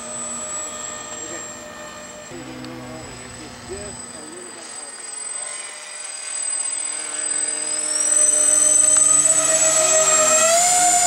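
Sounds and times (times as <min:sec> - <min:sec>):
model jet fans whining: 0:00.0 - 0:11.0.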